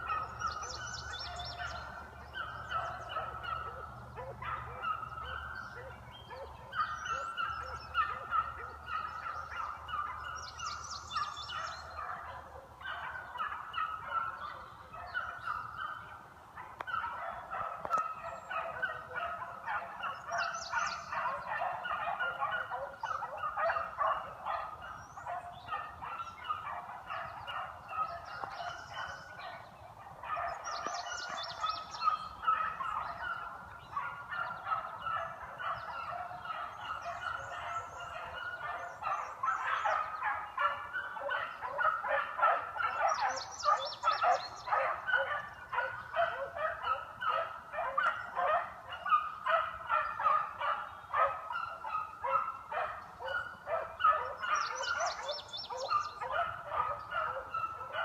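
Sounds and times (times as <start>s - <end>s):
pack of hounds baying: 0.0s - 58.0s.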